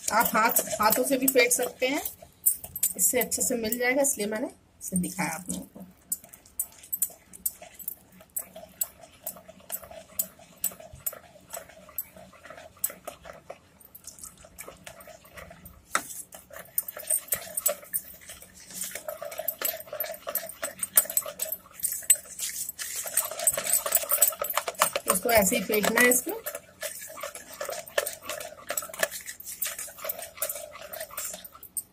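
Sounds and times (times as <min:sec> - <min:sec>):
whisk clicking against bowl: 0:00.0 - 0:04.0, 0:05.0 - 0:31.9.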